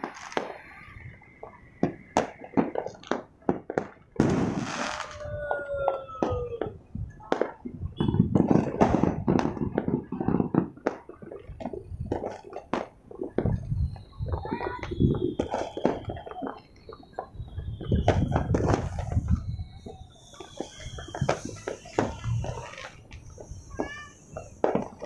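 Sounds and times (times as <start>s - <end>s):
falling firework whistle: 0.0s - 9.8s, 13.2s - 25.0s
dense crackling burst: 0.0s - 25.0s
fireworks bangs and pops: 0.0s - 25.0s.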